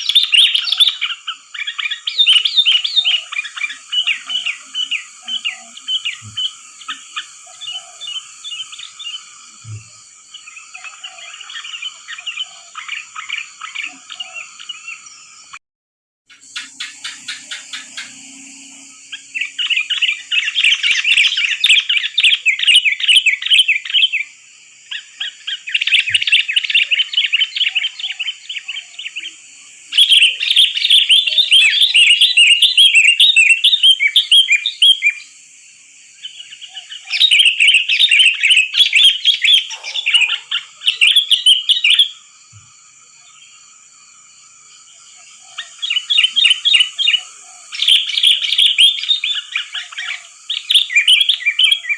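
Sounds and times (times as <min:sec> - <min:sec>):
bird singing whistled notes: 0:00.0 - 0:15.6, 0:16.3 - 0:35.4, 0:36.1 - 0:51.9.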